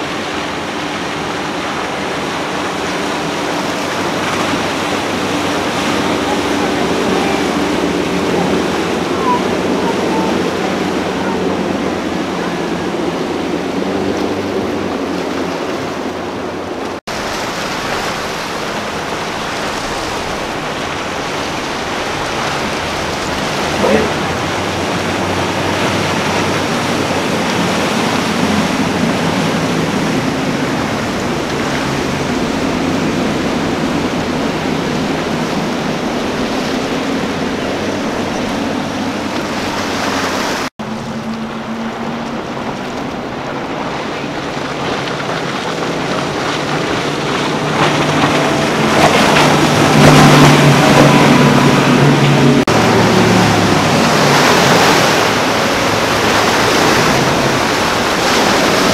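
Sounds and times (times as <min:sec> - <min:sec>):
outboard engine drone: 0:00.0 - 0:58.9
wake and water spray rushing: 0:00.0 - 0:58.9.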